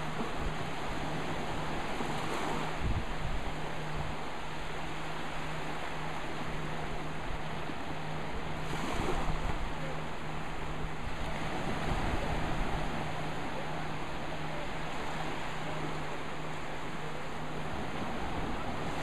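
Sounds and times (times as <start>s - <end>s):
small waves breaking on beach: 0.0s - 19.0s.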